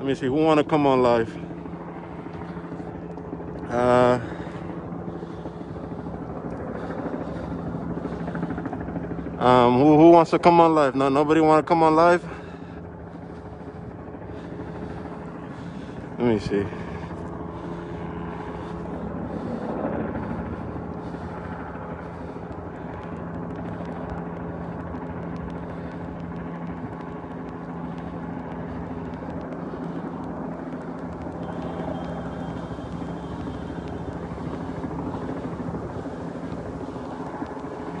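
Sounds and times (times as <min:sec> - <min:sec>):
outdoor noise: 0:00.0 - 0:38.0
steady mechanical drone: 0:00.0 - 0:38.0.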